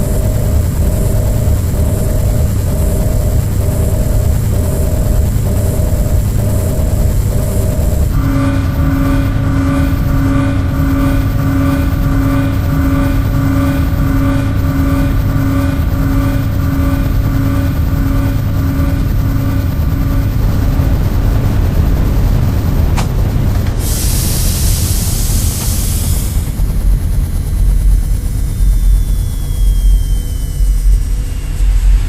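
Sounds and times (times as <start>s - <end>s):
deep rumbling drone: 0.0s - 32.0s
pulsing pitched tone: 0.0s - 32.0s.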